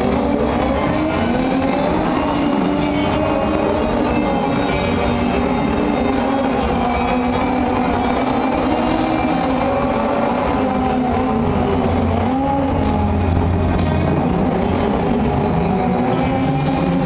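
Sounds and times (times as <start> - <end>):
car engines revving: 0.0 - 17.0
rock music over loudspeakers: 0.0 - 17.0.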